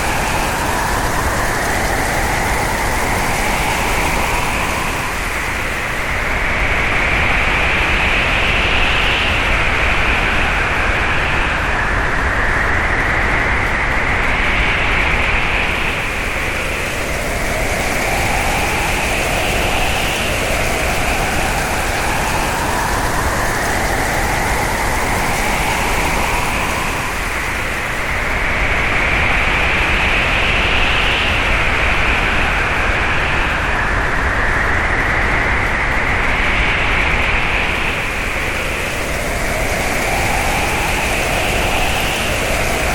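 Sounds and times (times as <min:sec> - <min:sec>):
hurricane wind whistling: 0:00.0 - 0:42.9.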